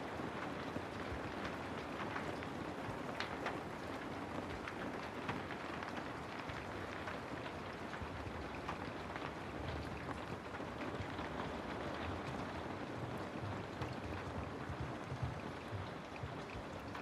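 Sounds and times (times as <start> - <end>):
raindrops ticking on hard surface: 0.0 - 17.0.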